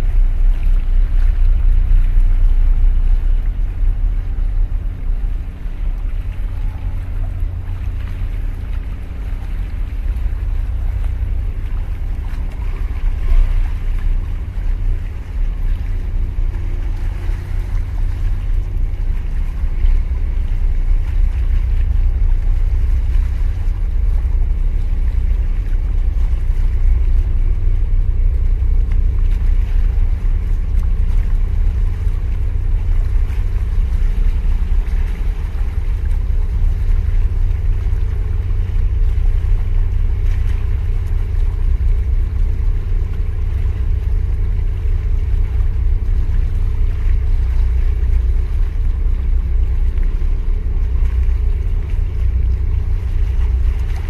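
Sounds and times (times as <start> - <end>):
waves washing against concrete: 0.0 - 54.0.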